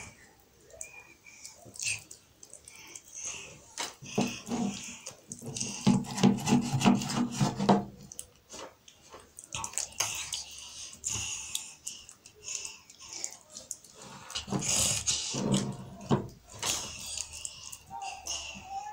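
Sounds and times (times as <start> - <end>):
mashed food squelching: 0.0 - 18.9.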